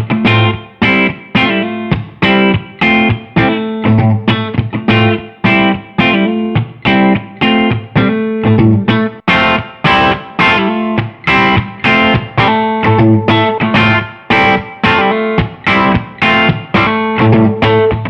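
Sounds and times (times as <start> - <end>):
electric guitar chords and notes: 0.0 - 18.0.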